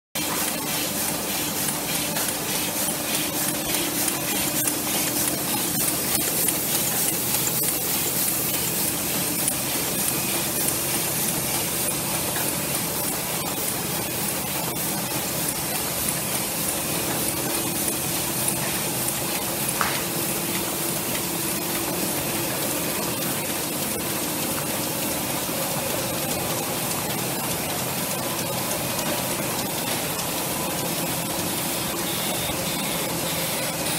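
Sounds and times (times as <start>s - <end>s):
printing press whirring: 0.2s - 33.9s.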